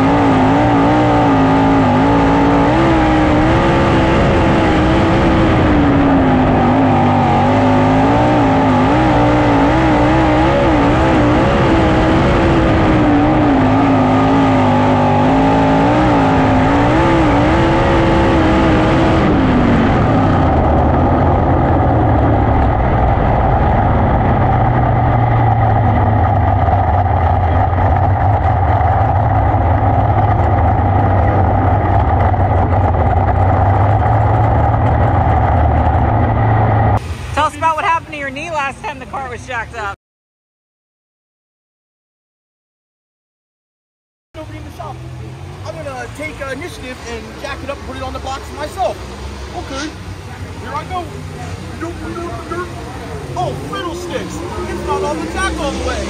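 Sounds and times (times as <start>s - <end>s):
race car engine revving: 0.0s - 40.0s, 44.4s - 56.0s.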